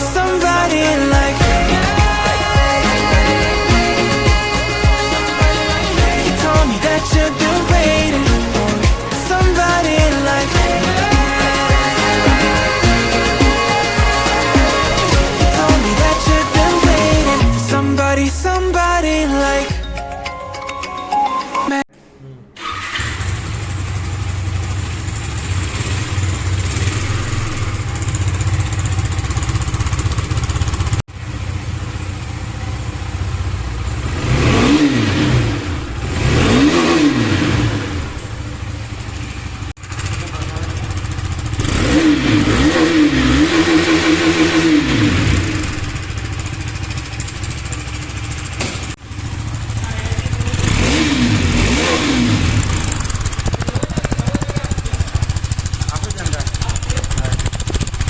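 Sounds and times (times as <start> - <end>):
engine revving: 0.0 - 19.2, 22.6 - 58.0.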